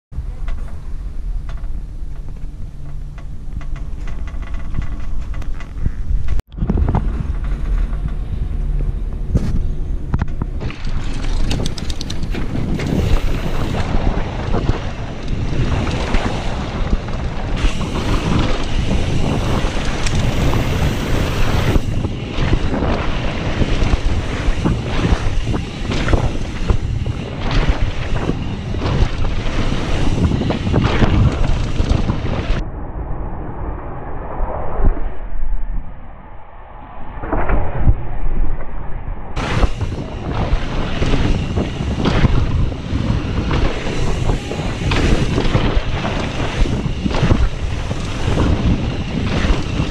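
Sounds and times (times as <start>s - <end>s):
low rumble: 0.1s - 49.9s
wind buffeting microphone: 0.1s - 49.9s
bike rattling over bumps: 0.2s - 32.6s, 39.4s - 49.9s.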